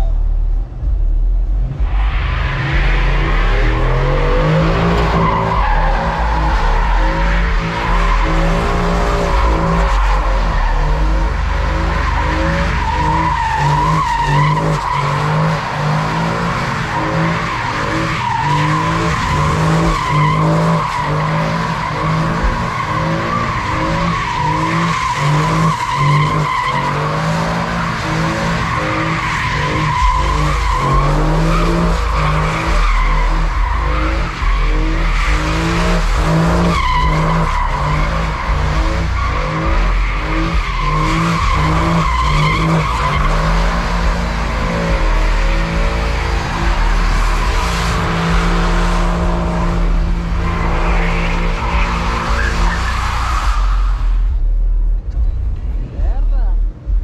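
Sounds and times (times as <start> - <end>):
tires squealing: 0.0 - 57.0
truck engine revving: 0.0 - 57.0.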